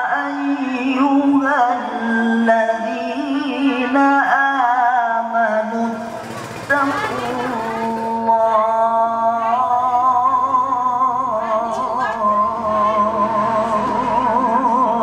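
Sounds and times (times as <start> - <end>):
man chanting a long vowel: 0.0 - 6.1, 7.7 - 15.0.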